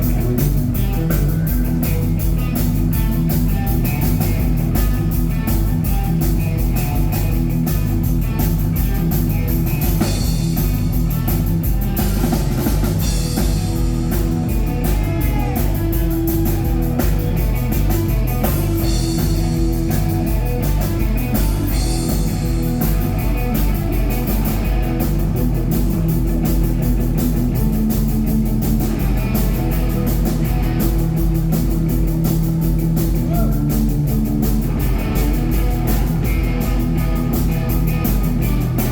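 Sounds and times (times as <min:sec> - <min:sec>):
drum kit beat: 0:00.0 - 0:38.9
electric guitar playing: 0:00.0 - 0:38.9.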